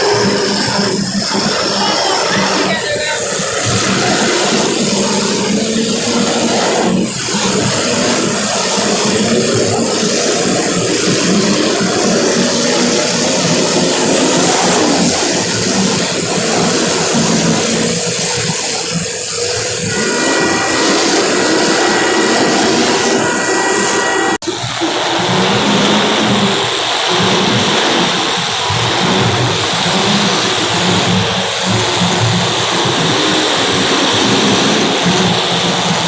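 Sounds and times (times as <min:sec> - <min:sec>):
race car engines: 0:00.0 - 0:36.0.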